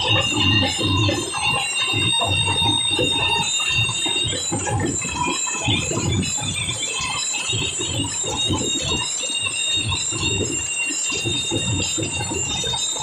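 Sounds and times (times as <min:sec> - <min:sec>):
high ringing tone: 0:00.0 - 0:13.0.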